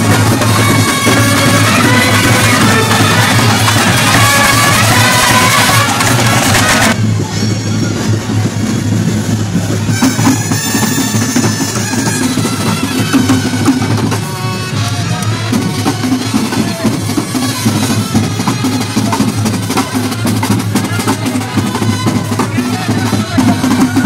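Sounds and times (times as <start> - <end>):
brass horns playing: 0.0 - 7.0, 9.8 - 24.0
bass and snare drums beating: 0.0 - 24.0.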